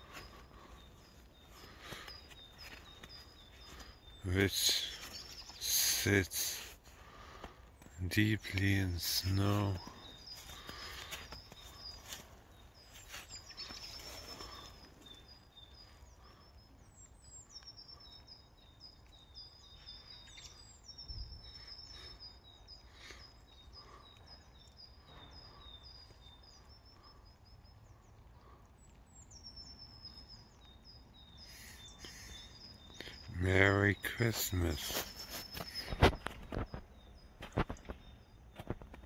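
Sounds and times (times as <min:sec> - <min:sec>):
outdoor background noise: 0:00.0 - 0:39.0
songbirds singing faintly: 0:00.0 - 0:39.0.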